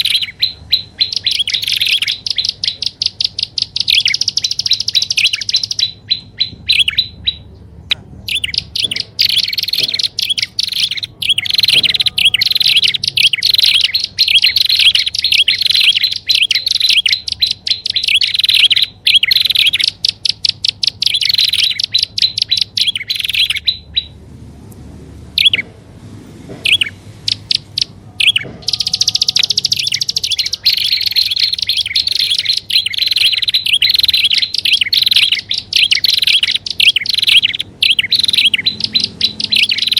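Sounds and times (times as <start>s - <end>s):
bird chirping rapidly: 0.0s - 24.2s, 25.3s - 25.7s, 26.6s - 39.9s.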